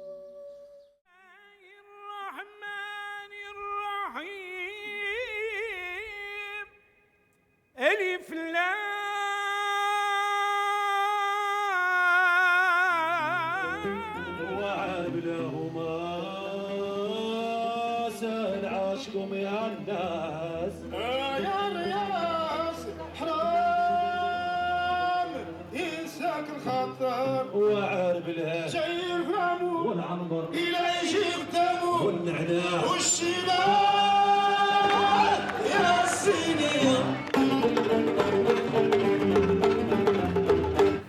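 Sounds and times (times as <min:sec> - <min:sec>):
person singing with vibrato: 0:01.1 - 0:39.6.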